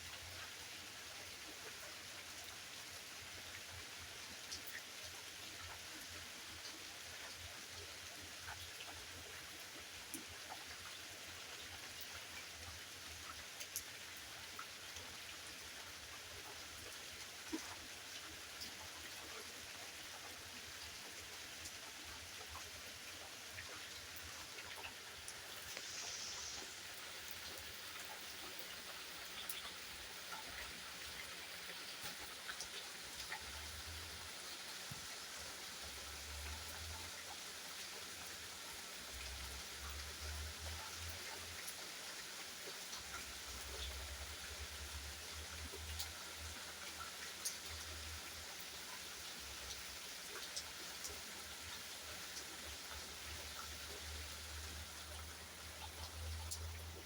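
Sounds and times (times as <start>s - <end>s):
rain falling: 0.1s - 57.0s.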